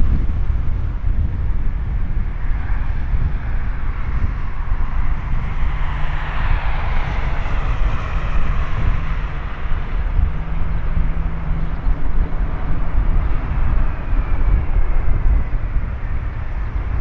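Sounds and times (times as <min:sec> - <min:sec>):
wind rumble on microphone: 0:00.0 - 0:17.0
jet engines of airliner landing: 0:02.2 - 0:17.0.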